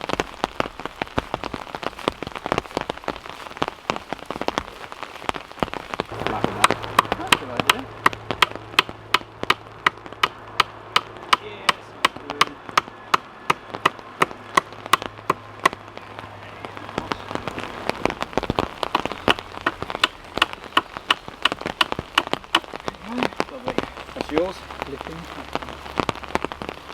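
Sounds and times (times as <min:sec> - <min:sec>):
rain falling: 0:00.0 - 0:26.9.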